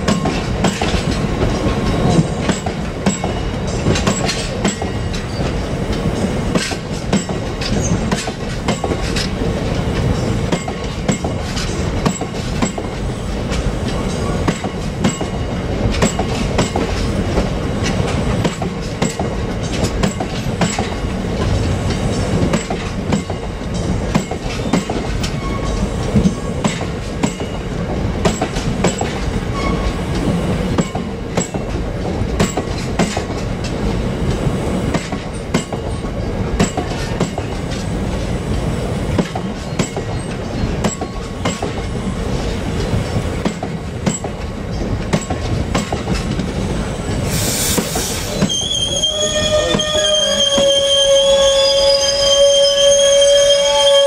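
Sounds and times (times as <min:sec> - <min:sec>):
wheels clicking over rail joints: 0:00.0 - 0:47.3.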